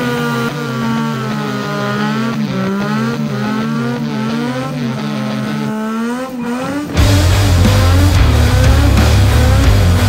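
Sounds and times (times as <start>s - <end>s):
motorcycle engine revving high: 0.0s - 10.0s.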